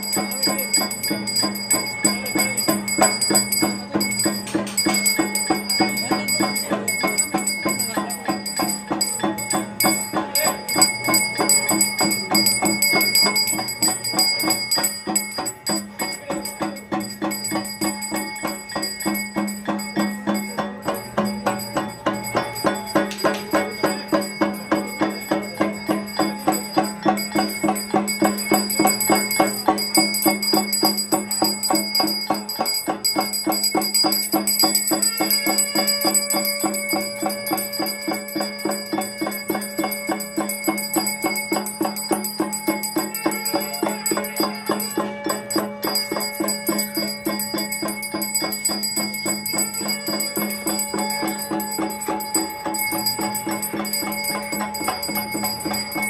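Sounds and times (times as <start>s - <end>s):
bells rung rapidly: 0.0s - 56.0s.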